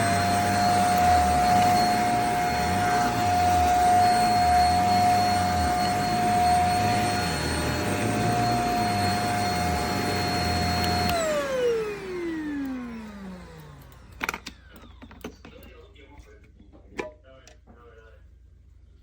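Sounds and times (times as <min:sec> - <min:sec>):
vacuum motor whining: 0:00.0 - 0:15.5.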